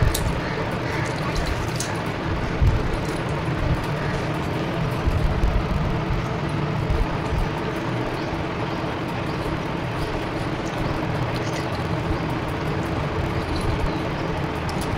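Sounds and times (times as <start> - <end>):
low rumble: 0.0 - 14.9.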